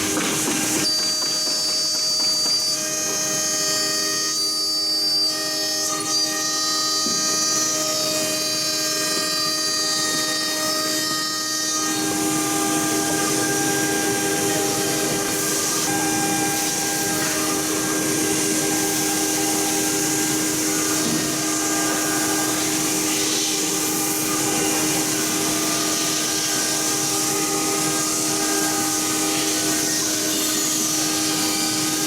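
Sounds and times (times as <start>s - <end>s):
cnc router whining: 0.0s - 32.0s.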